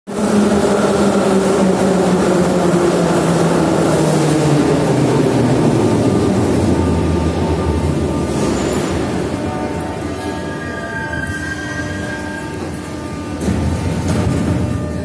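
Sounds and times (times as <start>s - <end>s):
wheels rumbling on rails: 0.1s - 15.0s.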